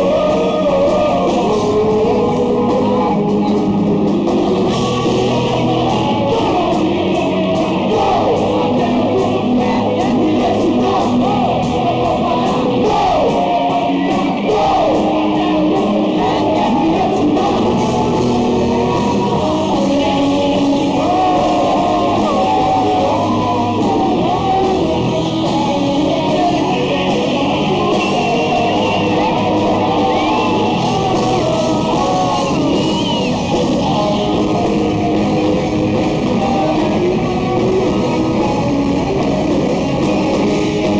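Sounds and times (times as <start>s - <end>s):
drum kit: 0.0s - 40.9s
electric guitar: 0.0s - 40.9s
person singing: 0.0s - 40.9s.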